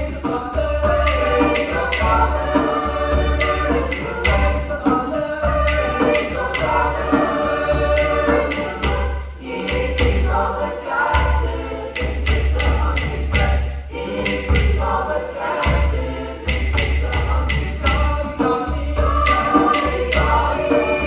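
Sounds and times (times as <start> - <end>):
light percussion ticks: 0.0 - 10.3, 11.1 - 14.8, 15.6 - 21.0
choir singing in parts: 0.0 - 21.0.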